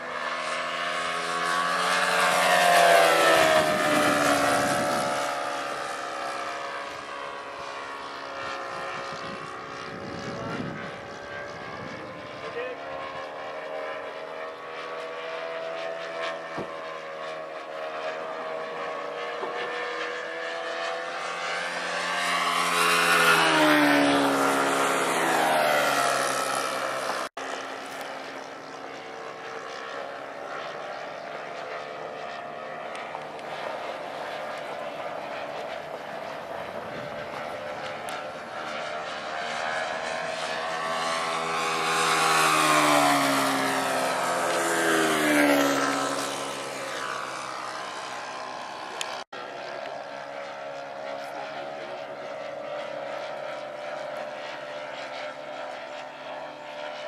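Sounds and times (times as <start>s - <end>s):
model airplane motor buzzing: 0.0s - 57.0s.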